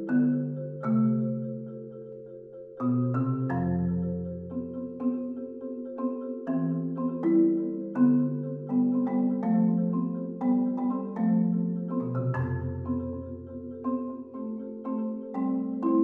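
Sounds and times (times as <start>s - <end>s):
marimba ensemble playing: 0.0s - 16.0s.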